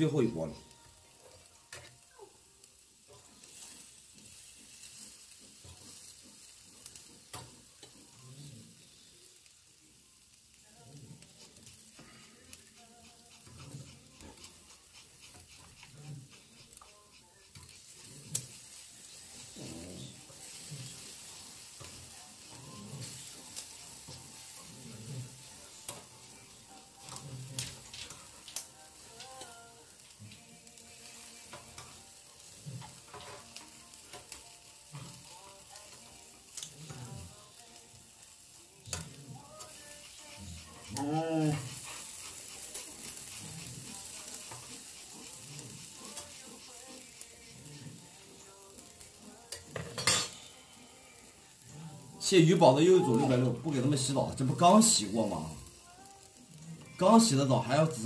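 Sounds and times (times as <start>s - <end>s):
meat sizzling on a grill: 0.0s - 58.0s.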